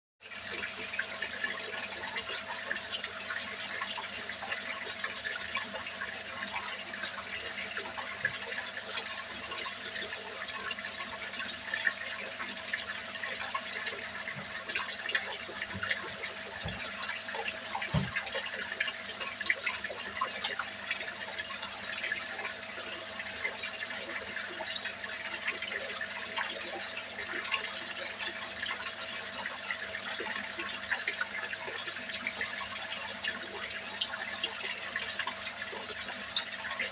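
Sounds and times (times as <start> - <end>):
water pouring into pond: 0.2 - 36.9.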